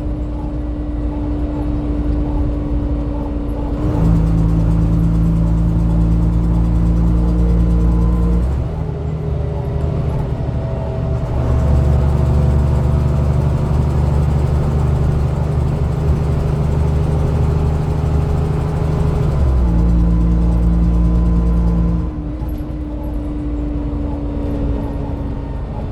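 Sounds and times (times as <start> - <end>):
bus engine droning: 0.0 - 25.9.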